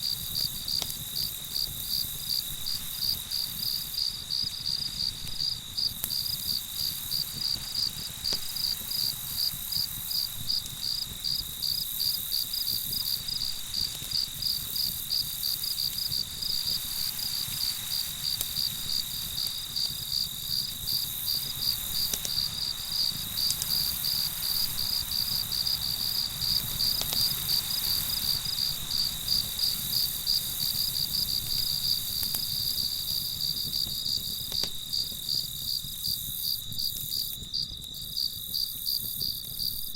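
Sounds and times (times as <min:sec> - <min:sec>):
continuous insect trill: 0:00.0 - 0:39.9
crickets chirping: 0:00.0 - 0:39.9.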